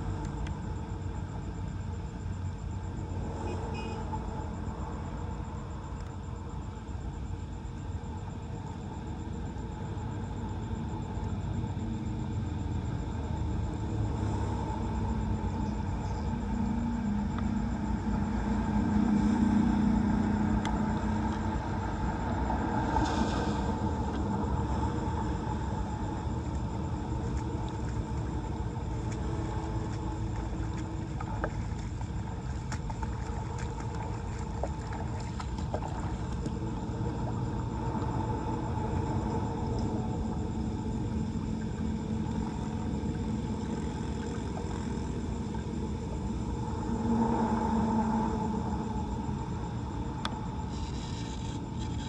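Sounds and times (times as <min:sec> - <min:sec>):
low motor rumble: 0:00.0 - 0:52.0
droning tone: 0:07.2 - 0:52.0.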